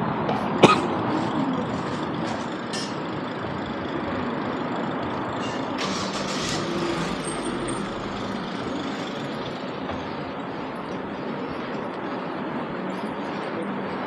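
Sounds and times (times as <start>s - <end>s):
vehicles passing close by: 0.0s - 13.9s
low engine hum: 0.4s - 12.2s.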